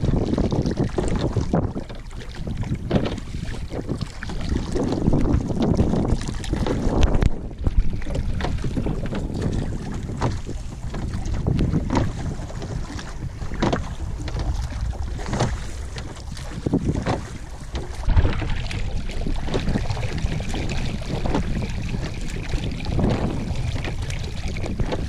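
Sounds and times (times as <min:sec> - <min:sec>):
water lapping against boat hull: 0:00.0 - 0:25.0
wind buffeting microphone: 0:00.0 - 0:25.0.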